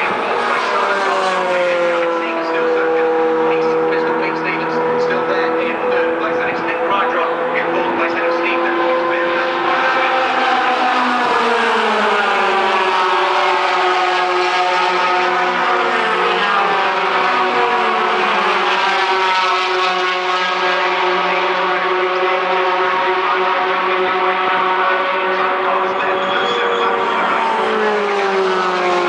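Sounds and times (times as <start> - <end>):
racing truck engines passing: 0.0 - 29.0.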